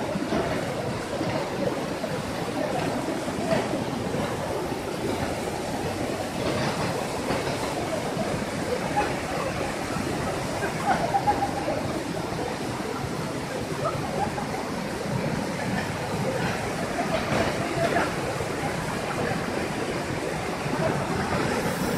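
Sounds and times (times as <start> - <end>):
waterfall rushing over rocks: 0.0 - 21.9.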